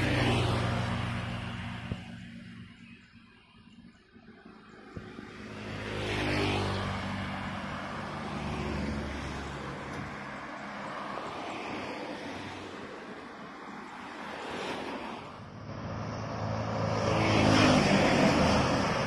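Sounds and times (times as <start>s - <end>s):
motor vehicle passing: 0.0s - 3.0s, 4.3s - 13.5s, 14.2s - 19.0s
road traffic noise: 0.0s - 19.0s.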